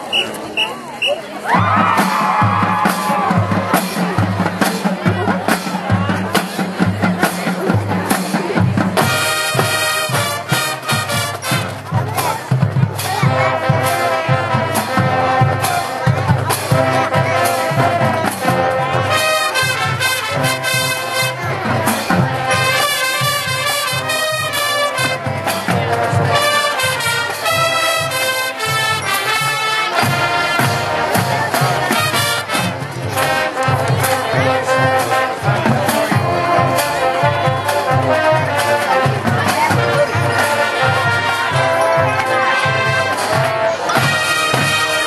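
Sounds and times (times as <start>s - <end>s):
low drum beat: 1.5s - 45.0s
brass melody: 8.8s - 45.0s.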